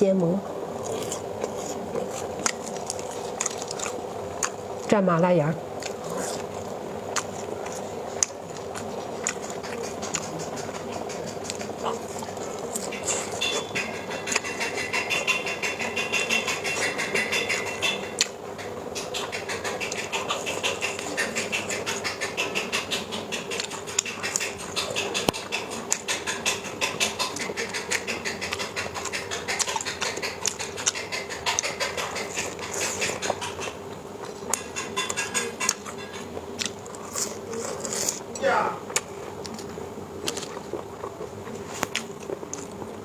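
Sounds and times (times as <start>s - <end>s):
faint background hum: 0.0s - 43.0s
wet chewing and mouth sounds: 0.1s - 43.0s.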